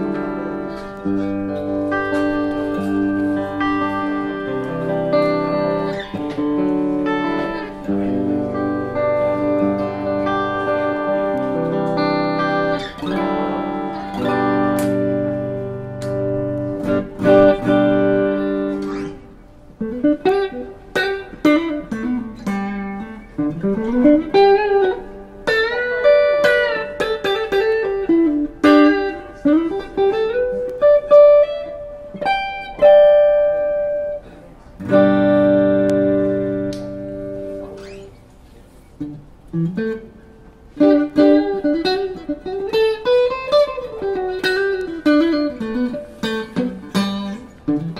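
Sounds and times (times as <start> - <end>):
electric guitar chords: 0.0 - 47.9
electric guitar lead with bends: 0.0 - 47.9.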